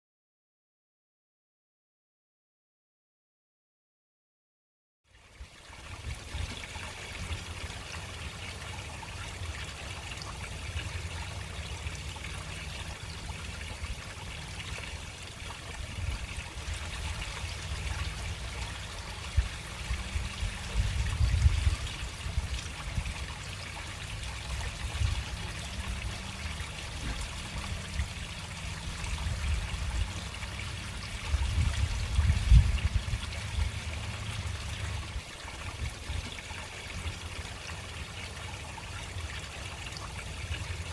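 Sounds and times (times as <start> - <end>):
water running into drain: 5.1 - 40.9.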